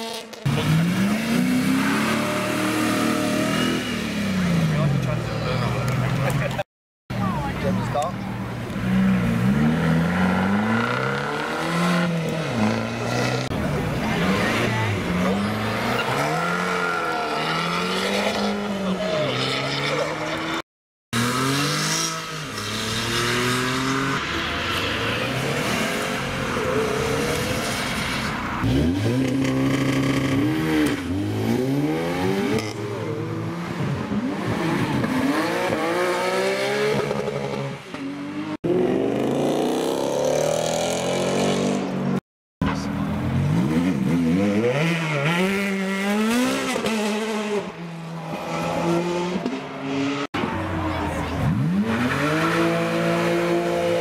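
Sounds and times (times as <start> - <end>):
car engines revving: 0.0 - 20.6, 21.2 - 54.0.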